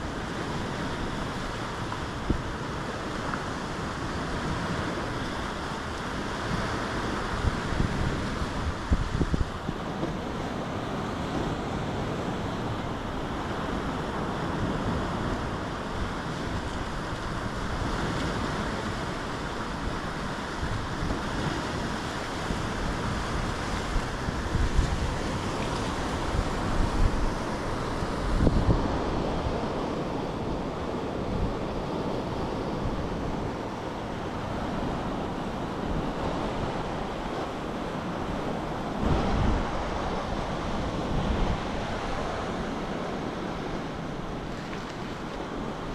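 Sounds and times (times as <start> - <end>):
sea waves washing ashore: 0.0 - 45.9
wind gusting on microphone: 0.0 - 45.9.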